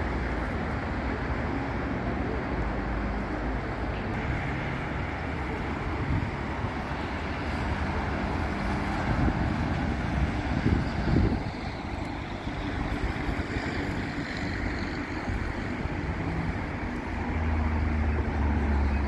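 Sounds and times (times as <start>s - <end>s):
road traffic: 0.0s - 19.0s
low engine drone: 2.0s - 19.0s.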